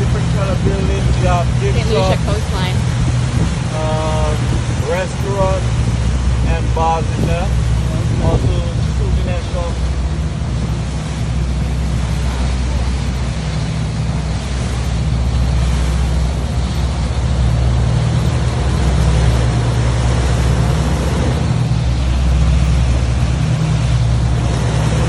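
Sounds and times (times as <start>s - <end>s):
churning water: 0.0s - 25.0s
outboard motors droning: 0.0s - 25.0s.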